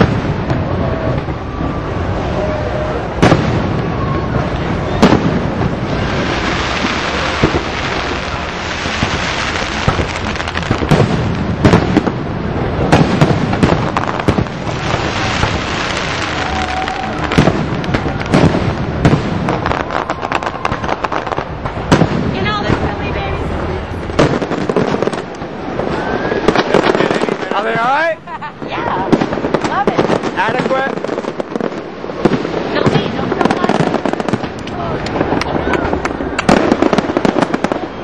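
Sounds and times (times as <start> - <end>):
fireworks bursts booming: 0.0 - 38.0
fireworks crackle: 0.0 - 38.0
rumbling echoes: 0.0 - 38.0.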